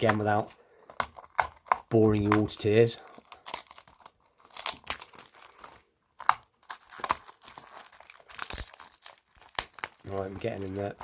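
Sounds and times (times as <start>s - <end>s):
cardboard box crinkling and tearing: 0.0s - 11.0s.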